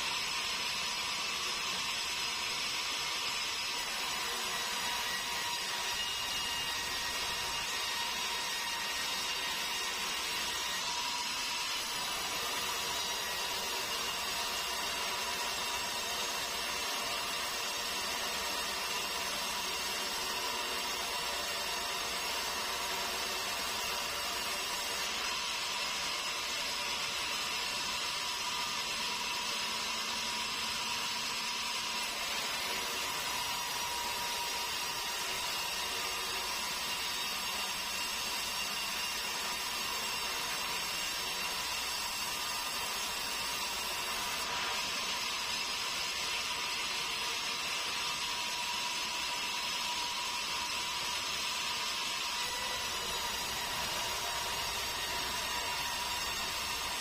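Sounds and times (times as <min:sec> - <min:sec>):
band saw running: 0:00.0 - 0:57.0.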